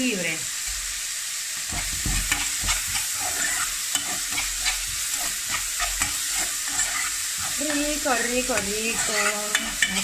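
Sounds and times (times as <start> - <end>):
vegetables sizzling in oil: 0.0 - 10.0
spoon scraping and knocking pot: 1.7 - 10.0.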